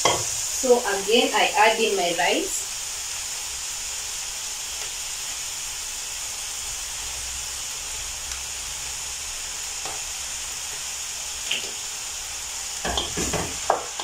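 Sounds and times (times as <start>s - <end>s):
vegetables sizzling in a pot: 0.0s - 14.0s.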